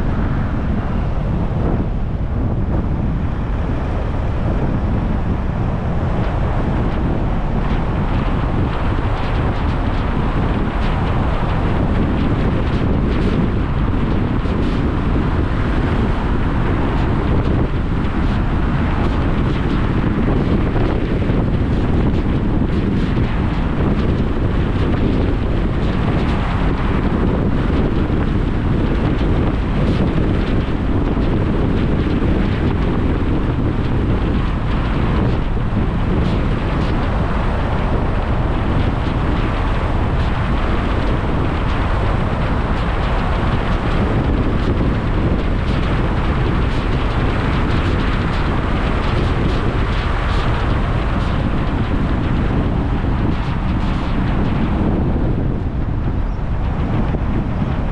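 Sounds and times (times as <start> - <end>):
road and tyre noise: 0.0 - 57.9
wind rushing over microphone: 0.0 - 57.9.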